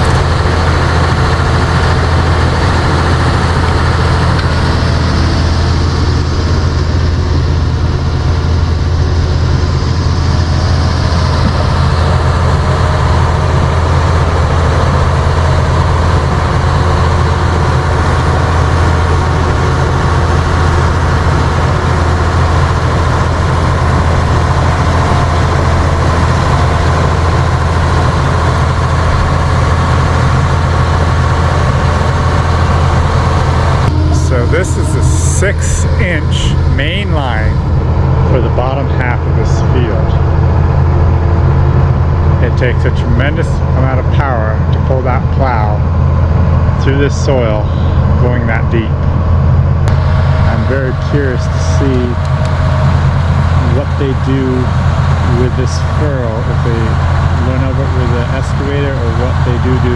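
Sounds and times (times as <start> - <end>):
heavy diesel engine humming: 0.0 - 59.9.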